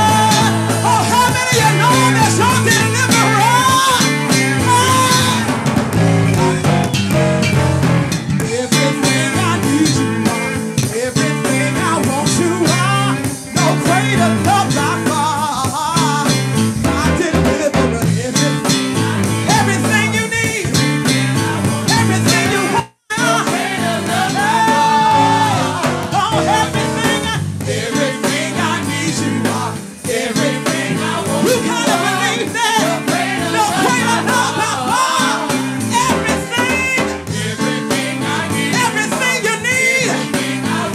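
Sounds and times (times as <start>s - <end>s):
voices singing: 0.0s - 6.9s, 8.4s - 16.3s, 17.0s - 40.9s
live band with guitar: 0.0s - 40.9s.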